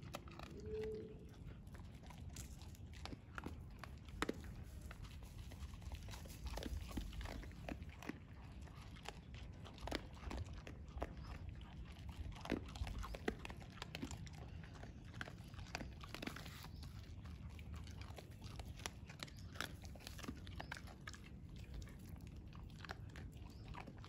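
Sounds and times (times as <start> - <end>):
dogs crunching dry kibble: 0.0 - 24.0.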